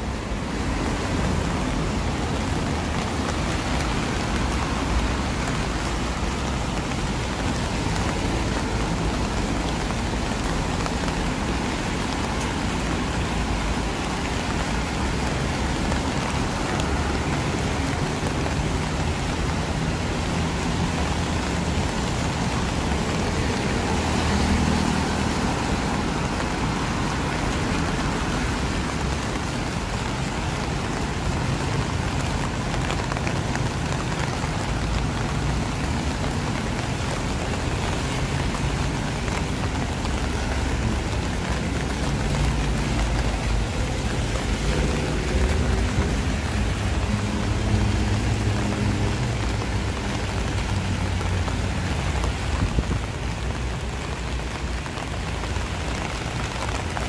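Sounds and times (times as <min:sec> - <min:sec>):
heavy rain on street: 0:00.0 - 0:57.0
road traffic rumble: 0:00.0 - 0:57.0.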